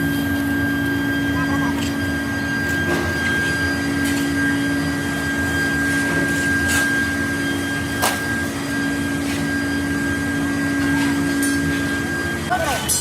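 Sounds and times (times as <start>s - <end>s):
machine tool humming and whining: 0.0s - 13.0s.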